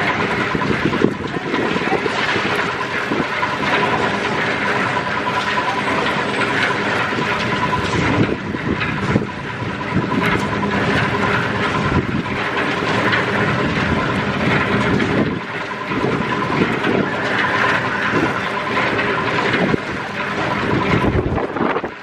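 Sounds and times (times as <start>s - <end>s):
machine humming and rattling: 0.0s - 22.0s.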